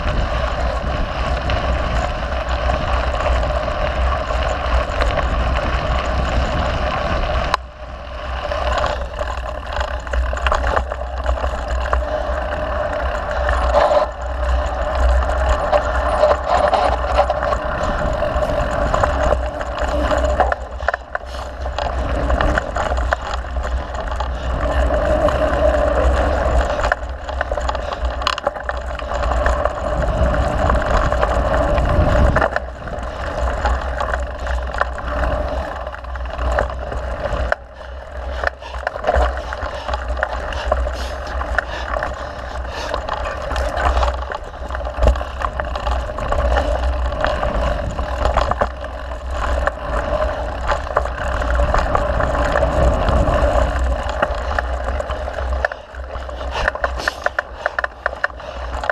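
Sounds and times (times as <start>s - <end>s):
bike rattling and knocking: 0.0s - 58.9s
bike tyre noise: 0.0s - 58.9s
wind rushing over microphone: 0.0s - 58.9s.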